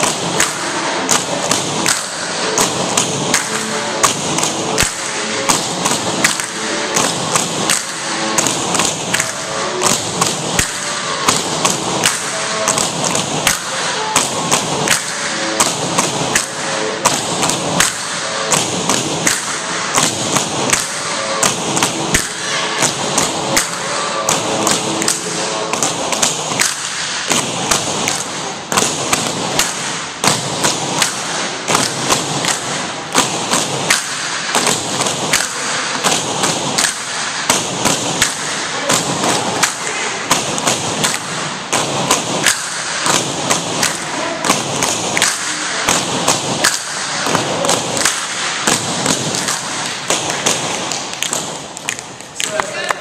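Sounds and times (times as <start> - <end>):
bamboo poles striking wooden floor: 0.0 - 53.0
feet stepping: 0.0 - 53.0.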